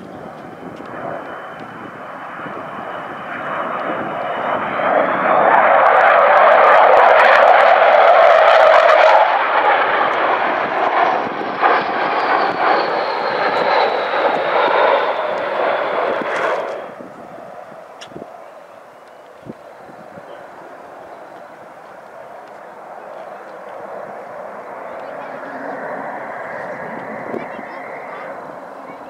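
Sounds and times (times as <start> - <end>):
jet bomber flypast roar: 0.0 - 29.0.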